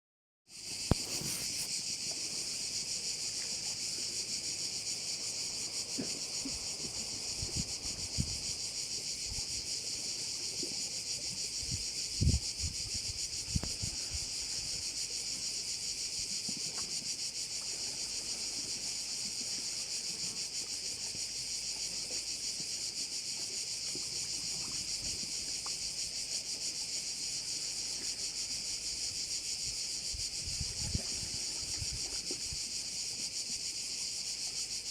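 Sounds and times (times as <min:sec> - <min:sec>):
crickets shrilling: 0:00.5 - 0:34.9.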